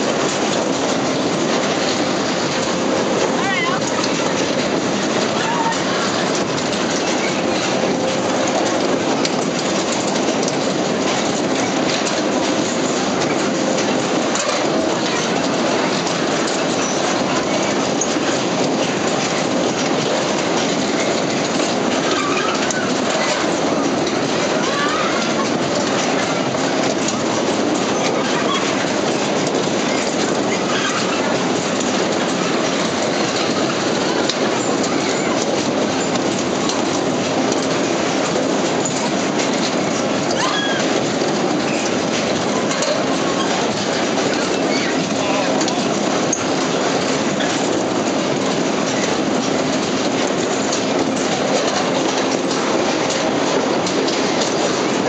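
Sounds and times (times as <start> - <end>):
ride wheels rumbling on steel track: 0.0 - 55.0
scattered clacks: 0.0 - 55.0.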